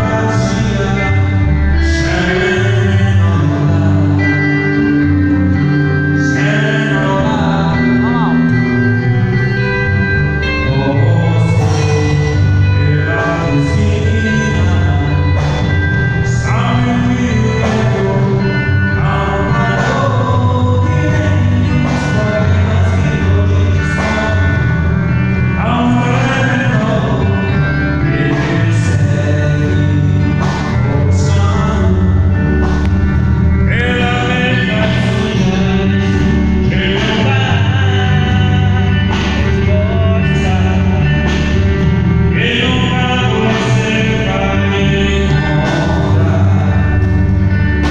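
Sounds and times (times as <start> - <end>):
bass: 0.0 - 47.9
drums keeping a steady beat: 0.0 - 47.9
person singing: 0.0 - 47.9.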